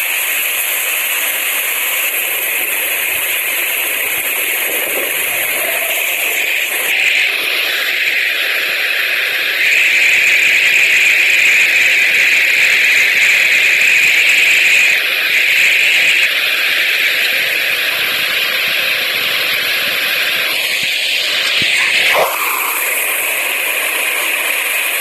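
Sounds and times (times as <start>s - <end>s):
gusty wind hissing: 0.1s - 25.0s.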